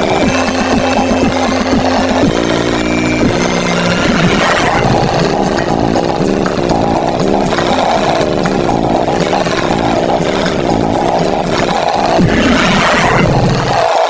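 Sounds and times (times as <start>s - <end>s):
cartoon tractor engine rumbling: 0.0s - 14.0s
children's song music: 0.0s - 14.0s.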